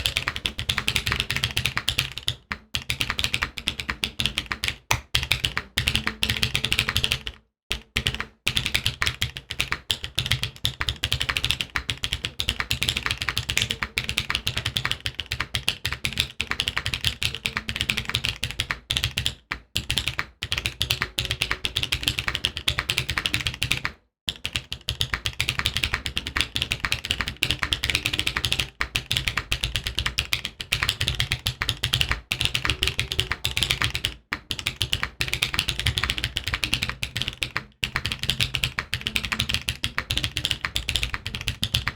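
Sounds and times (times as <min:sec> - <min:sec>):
fast typing on mechanical keyboard: 0:00.0 - 0:41.9.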